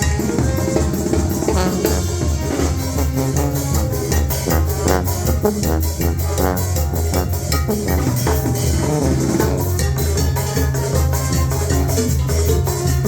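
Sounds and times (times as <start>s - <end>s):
latin dance music: 0.0s - 13.0s.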